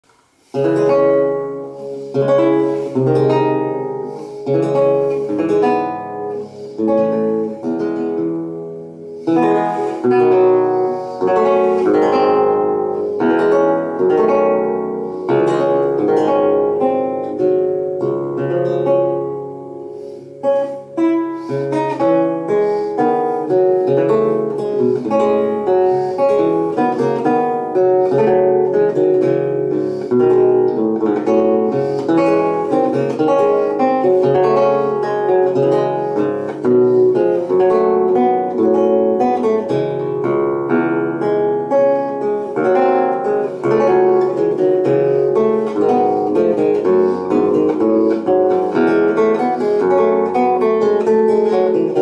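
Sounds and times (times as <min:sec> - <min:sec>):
plucked lute: 0:00.0 - 0:52.0.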